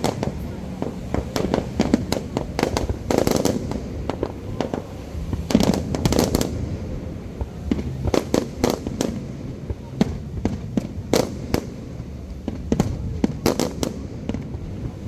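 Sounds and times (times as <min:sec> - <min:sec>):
fireworks bursts and bangs: 0:00.0 - 0:15.0
low rumble: 0:00.0 - 0:15.0.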